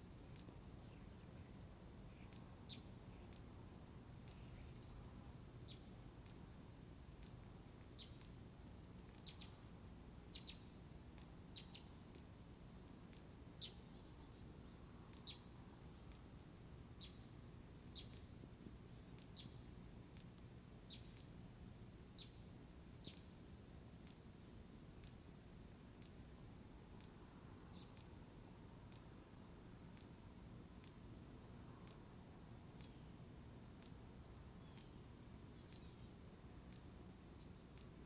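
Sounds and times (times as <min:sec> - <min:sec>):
faint background hiss: 0:00.0 - 0:38.0
songbird chip notes: 0:00.0 - 0:38.0.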